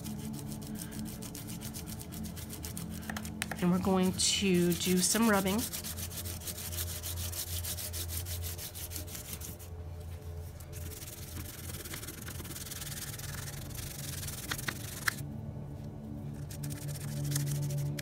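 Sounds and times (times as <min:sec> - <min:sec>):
crayon rubbing over card: 0:00.0 - 0:09.7, 0:10.7 - 0:15.2, 0:16.4 - 0:18.0.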